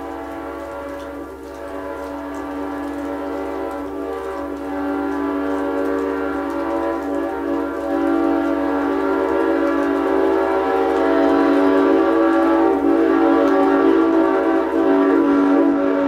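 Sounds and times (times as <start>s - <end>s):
train air horn chord: 0.0s - 16.0s.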